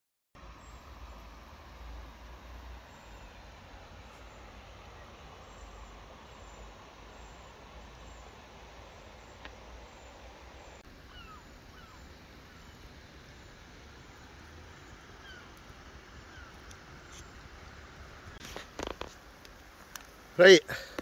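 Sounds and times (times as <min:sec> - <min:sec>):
birds chirping: 0:00.4 - 0:21.0
river water flowing: 0:00.4 - 0:21.0.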